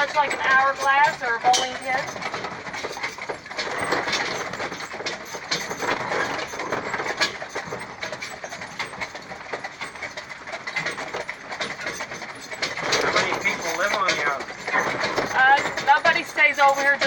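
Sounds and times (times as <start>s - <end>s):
carriage rattling and rolling: 0.0s - 17.0s
horses clip-clopping: 0.0s - 17.0s.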